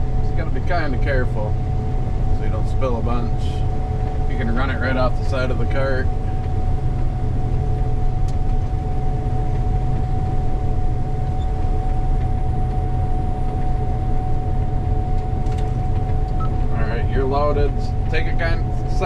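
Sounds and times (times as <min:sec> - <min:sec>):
low engine rumble: 0:00.0 - 0:19.0
steady high whine: 0:00.0 - 0:19.0.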